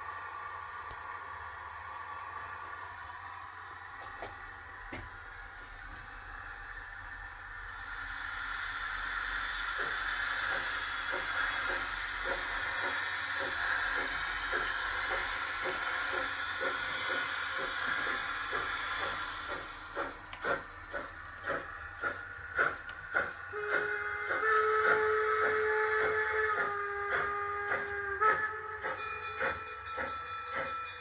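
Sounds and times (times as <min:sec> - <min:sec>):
hiss of steam with soft beat: 0:00.0 - 0:31.0
steam locomotive chuffs: 0:00.0 - 0:31.0.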